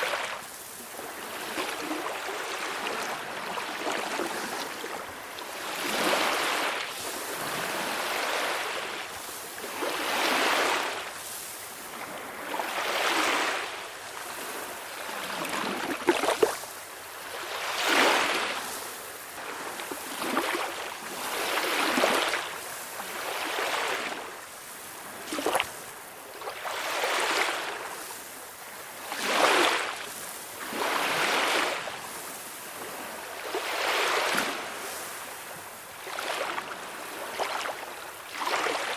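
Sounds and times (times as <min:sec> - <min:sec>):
small waves washing in: 0:00.0 - 0:38.9.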